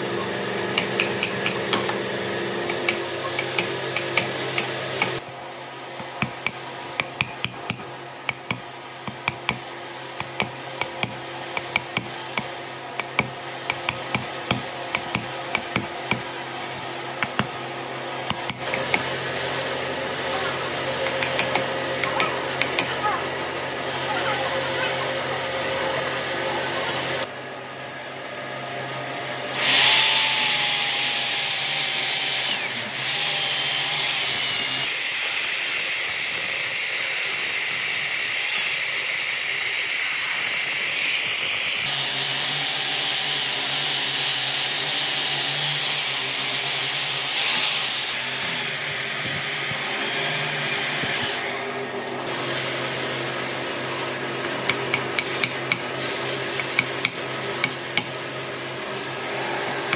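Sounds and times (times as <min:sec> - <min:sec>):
electric drill grinding into wood: 0:00.4 - 0:05.2, 0:06.0 - 0:23.2, 0:29.5 - 0:59.9.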